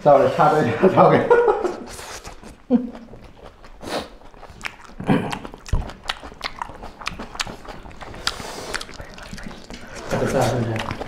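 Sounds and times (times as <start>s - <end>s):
people chewing: 0.1s - 11.0s
fingers squelching food: 1.9s - 11.0s
lip smacks: 1.9s - 11.0s.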